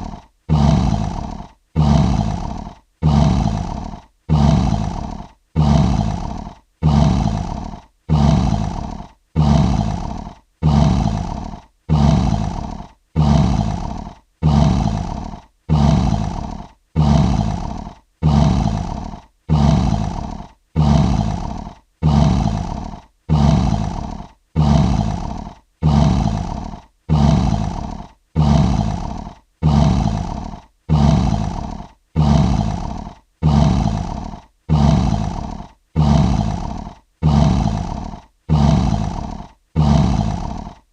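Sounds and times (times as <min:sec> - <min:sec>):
lion roaring grunt: 0:00.0 - 0:40.9.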